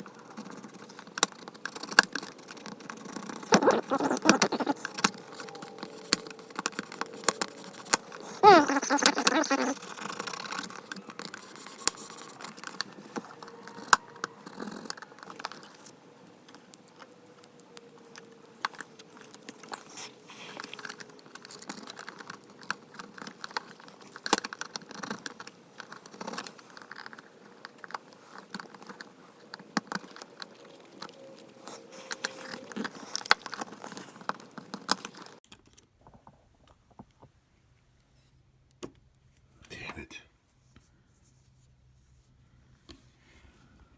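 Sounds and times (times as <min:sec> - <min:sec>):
hand tools clicking and scraping: 0:00.0 - 0:35.4.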